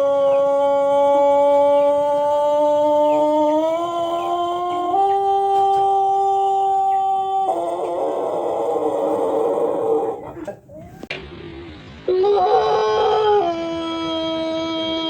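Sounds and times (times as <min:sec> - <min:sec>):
rooster crowing: 0:00.0 - 0:11.0, 0:12.1 - 0:15.0.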